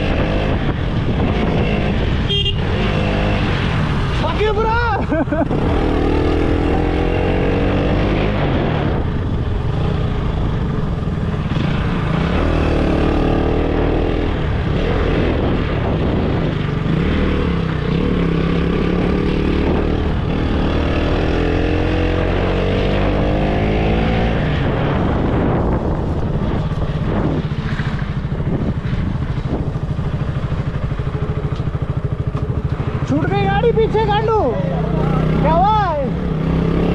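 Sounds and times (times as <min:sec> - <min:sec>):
motorcycle engine accelerating: 0:00.0 - 0:04.4, 0:05.1 - 0:36.9
wind rushing over microphone: 0:00.0 - 0:36.9.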